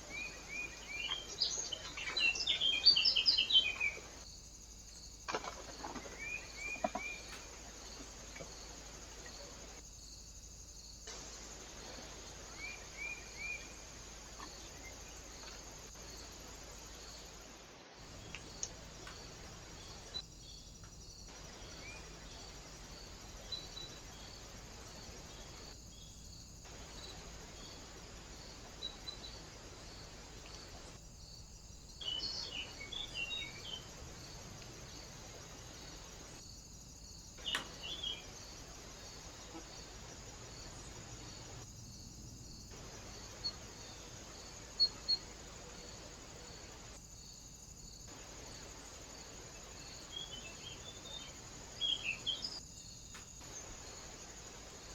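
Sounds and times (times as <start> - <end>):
small birds chirping: 0.0 - 9.8, 11.7 - 17.4, 18.0 - 36.4, 37.0 - 41.6, 48.0 - 54.1
insect chirping: 0.0 - 54.9
microphone hiss: 6.3 - 54.9.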